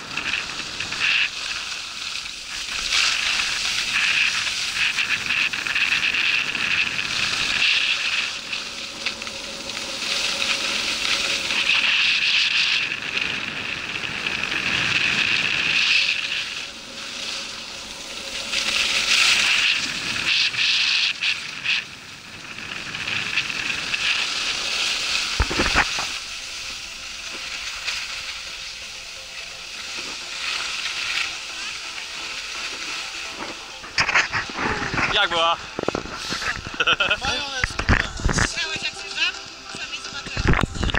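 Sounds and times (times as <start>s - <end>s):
skis scraping over snow: 0.0s - 40.9s.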